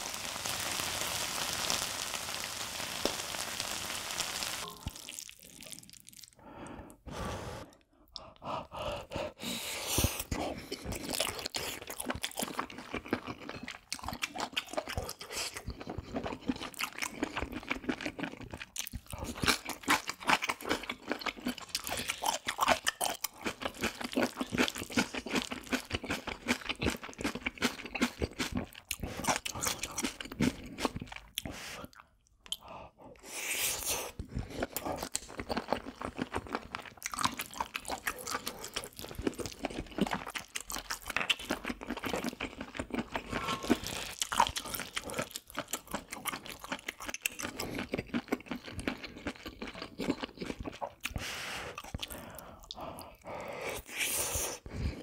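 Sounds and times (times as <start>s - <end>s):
close chewing of crunchy food: 0.0s - 55.0s.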